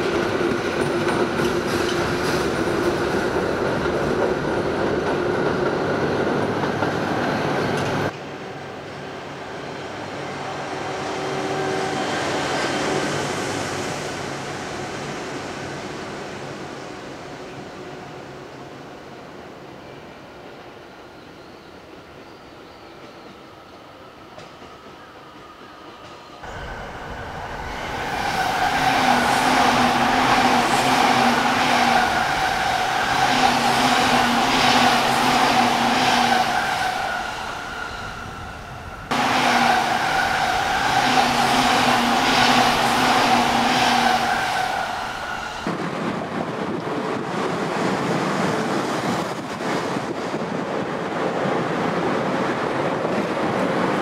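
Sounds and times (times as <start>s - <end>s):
electric train passing with whine: 0.0s - 54.0s.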